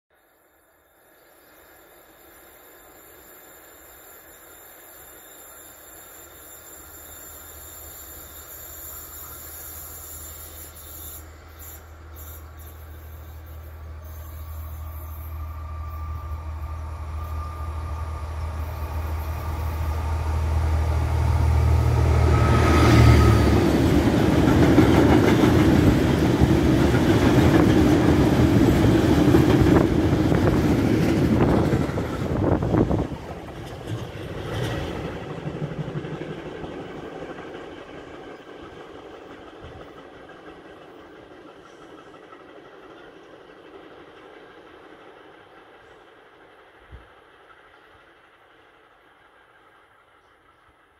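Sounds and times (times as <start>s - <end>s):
diesel locomotive engine drone: 2.7s - 50.9s.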